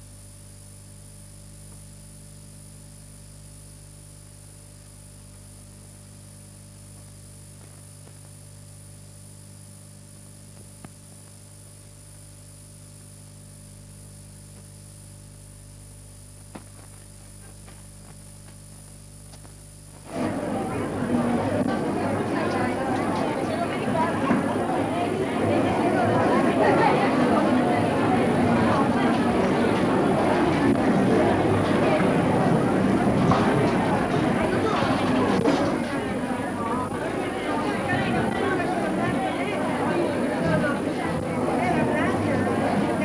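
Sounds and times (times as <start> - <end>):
electrical hum and hiss: 0.0 - 43.0.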